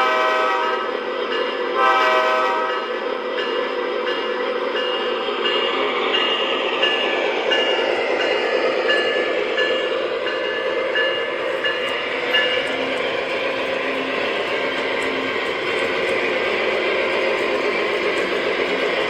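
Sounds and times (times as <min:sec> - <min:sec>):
model train rumbling past: 0:00.0 - 0:19.0
train bell dinging: 0:00.0 - 0:19.0.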